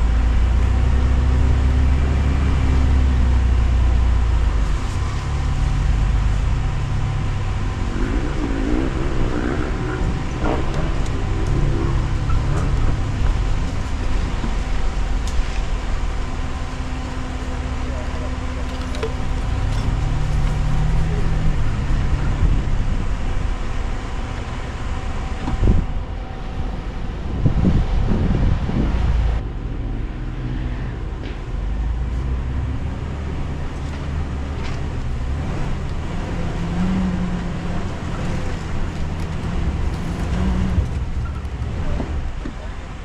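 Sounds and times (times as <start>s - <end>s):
suv engine low drone: 0.0s - 43.0s.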